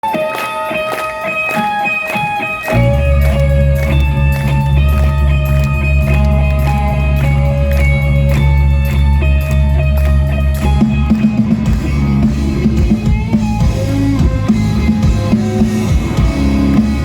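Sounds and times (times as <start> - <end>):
guitar picked riff: 0.0 - 17.0
rock band playing: 0.0 - 17.0.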